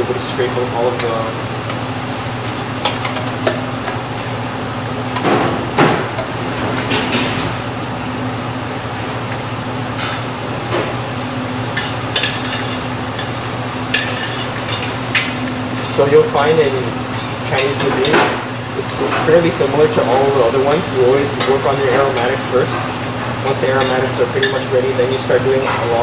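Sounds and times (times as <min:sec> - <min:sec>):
kitchen machinery humming: 0:00.0 - 0:26.0.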